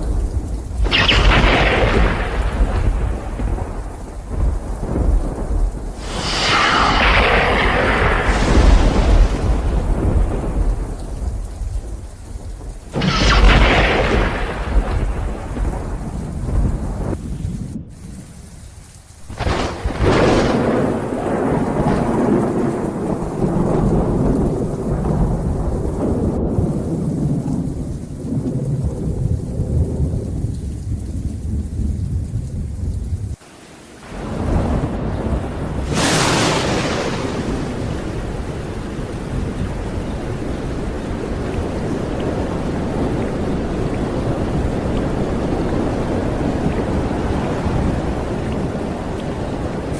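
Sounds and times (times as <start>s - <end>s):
sharp close thunderclaps: 0.0s - 18.0s, 19.2s - 33.4s, 34.4s - 49.9s
low rumble of thunder: 0.0s - 18.6s, 19.2s - 33.4s, 34.1s - 49.9s
rain: 0.0s - 49.9s.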